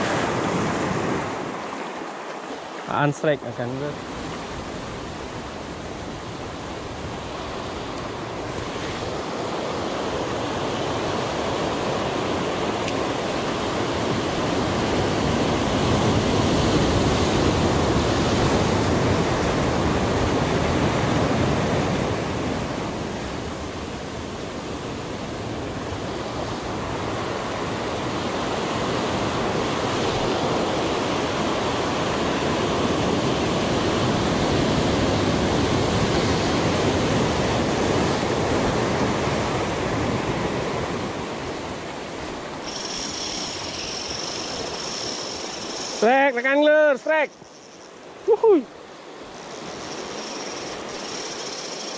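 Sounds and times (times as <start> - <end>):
sea surf washing over rocks: 0.0 - 51.9.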